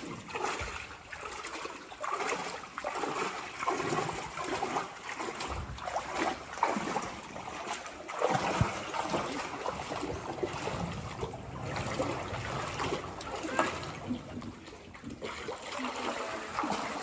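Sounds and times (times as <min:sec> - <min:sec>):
river water splashing and trickling: 0:00.0 - 0:17.0.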